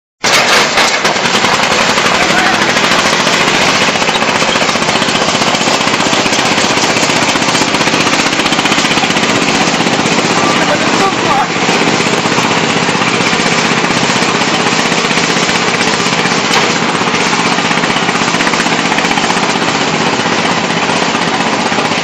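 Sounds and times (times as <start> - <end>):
diesel engine chugging: 0.2 - 22.0.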